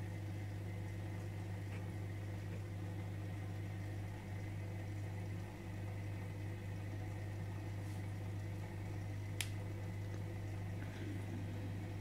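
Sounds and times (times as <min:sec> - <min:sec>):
aquarium filter humming and bubbling: 0:00.0 - 0:12.0.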